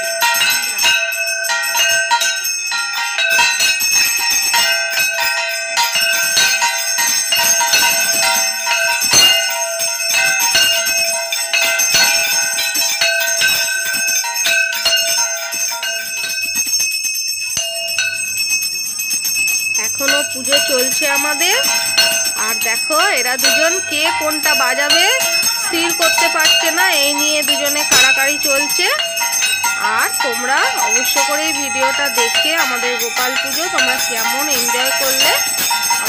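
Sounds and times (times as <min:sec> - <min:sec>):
brass handbell ringing rapidly: 0:00.0 - 0:36.0.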